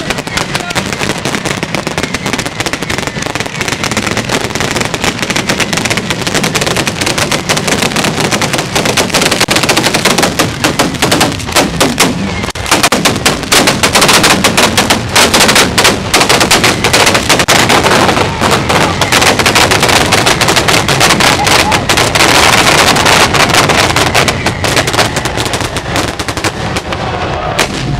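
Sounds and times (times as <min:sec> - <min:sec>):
firecrackers banging rapidly: 0:00.0 - 0:27.9.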